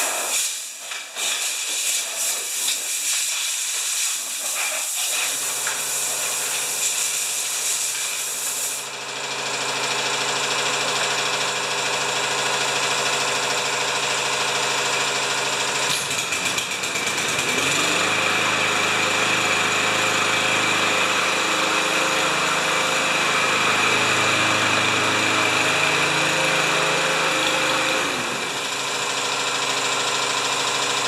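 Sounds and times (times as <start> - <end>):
lawn mower engine running: 5.3 - 7.5, 8.3 - 31.0.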